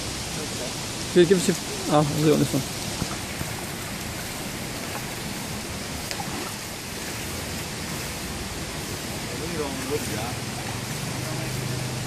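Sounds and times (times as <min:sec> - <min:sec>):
water running over rocks: 0:00.0 - 0:12.0.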